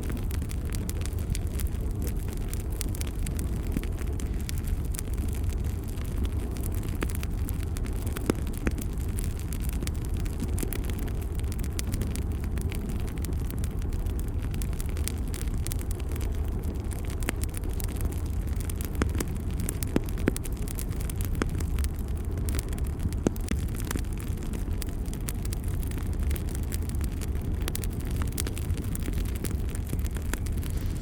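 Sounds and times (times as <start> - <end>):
fire crackling and popping: 0.0 - 31.0
fire low rumble: 0.0 - 31.0.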